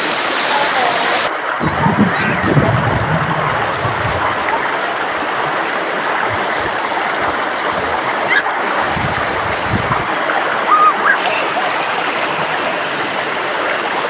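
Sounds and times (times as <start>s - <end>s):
stream rushing and gurgling: 0.0s - 14.0s.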